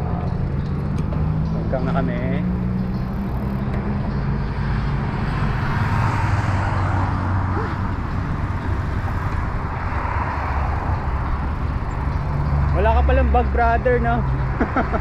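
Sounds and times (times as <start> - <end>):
passing traffic: 0.0 - 15.0.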